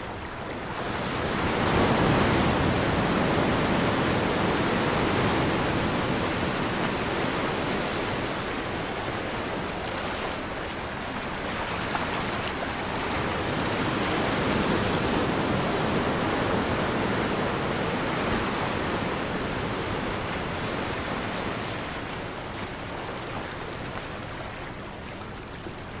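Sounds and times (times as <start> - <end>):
ocean surf washing: 0.0 - 26.0.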